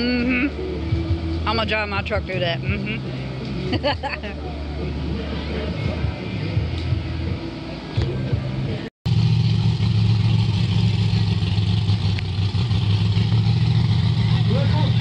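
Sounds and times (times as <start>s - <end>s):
truck engine running loudly: 2.6s - 15.0s.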